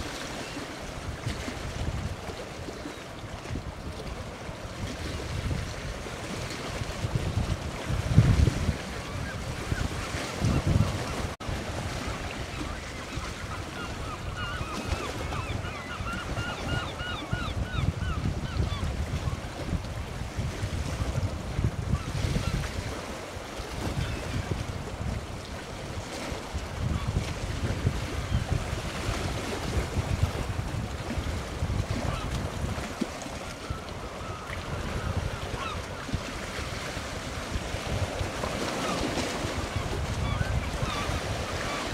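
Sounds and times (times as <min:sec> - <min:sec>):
sea waves: 0:00.0 - 0:41.9
wind buffeting microphone: 0:00.0 - 0:41.9.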